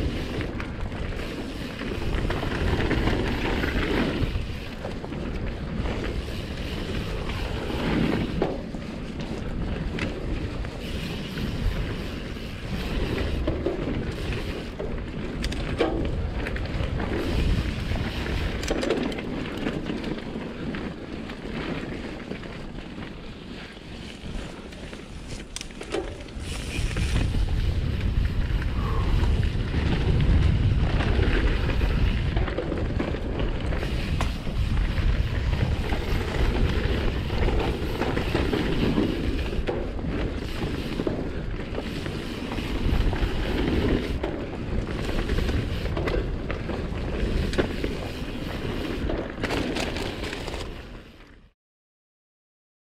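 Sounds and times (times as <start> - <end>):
wind buffeting microphone: 0.0 - 22.0, 24.0 - 51.0
tyres rolling over dirt: 0.0 - 51.2
bike rattling over bumps: 0.0 - 51.4.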